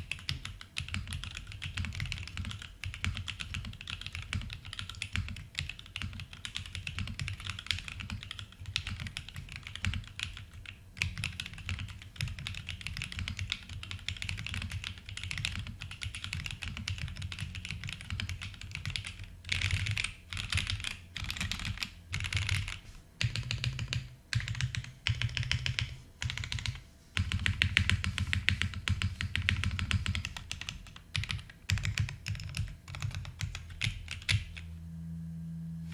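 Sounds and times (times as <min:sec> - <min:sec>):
mechanical keyboard typing: 0:00.0 - 0:34.6.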